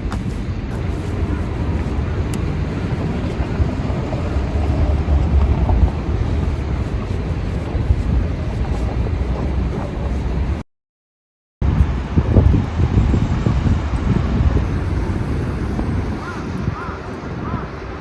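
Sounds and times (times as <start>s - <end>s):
wind buffeting microphone: 0.0s - 10.6s, 11.6s - 18.0s.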